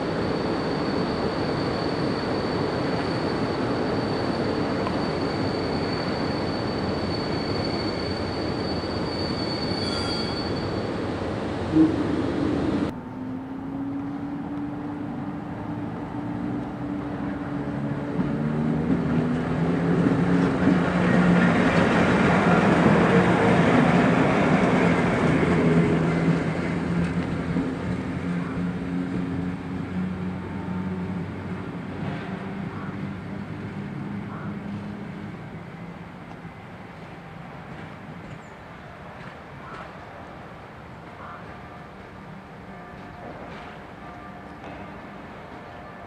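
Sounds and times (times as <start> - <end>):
electric locomotive humming: 0.0 - 46.0.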